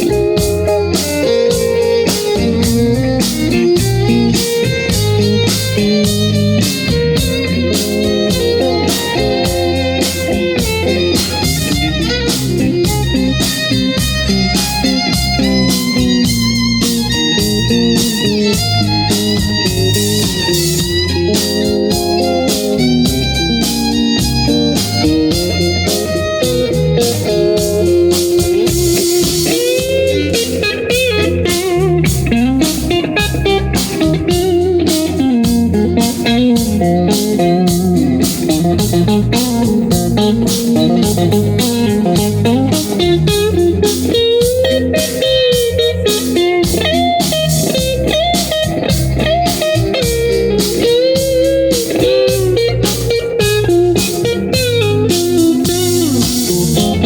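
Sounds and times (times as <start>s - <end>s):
bass and drums: 0.0s - 57.0s
electric guitar solo: 0.0s - 57.0s.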